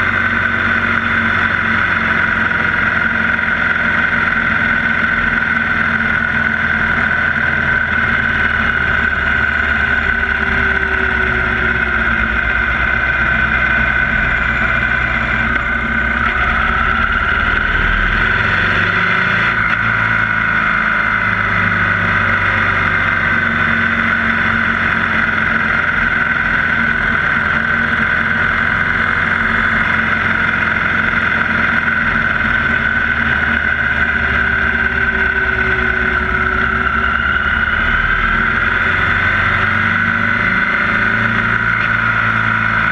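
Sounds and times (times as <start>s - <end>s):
motorcycle engine cruising: 0.0s - 42.9s
road noise: 0.0s - 42.9s.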